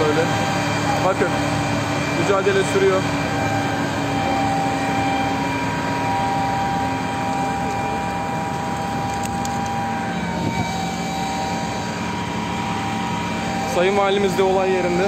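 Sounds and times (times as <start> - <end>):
heavy engine droning with whine: 0.0 - 15.0.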